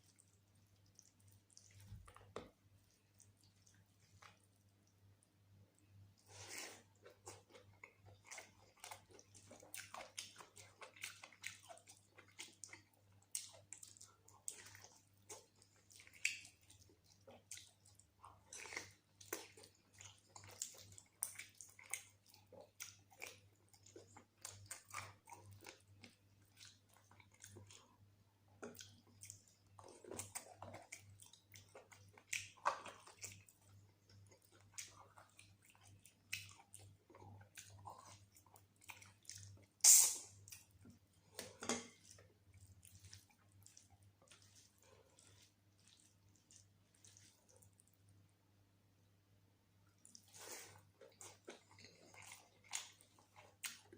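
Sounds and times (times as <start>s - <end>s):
close chewing and mouth clicks: 0.0s - 48.3s, 49.8s - 53.9s
faint low hum: 0.0s - 53.9s.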